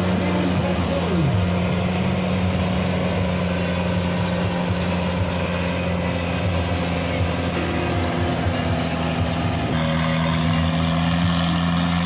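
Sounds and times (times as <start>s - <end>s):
jeep engine running under load: 0.0s - 12.0s.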